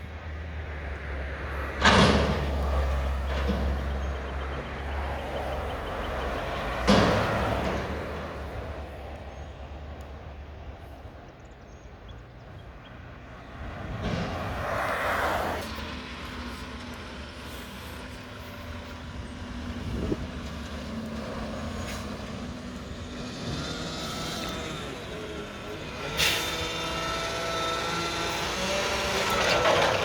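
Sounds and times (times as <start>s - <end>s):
garbage truck engine rumble: 0.0s - 11.3s, 12.0s - 30.0s.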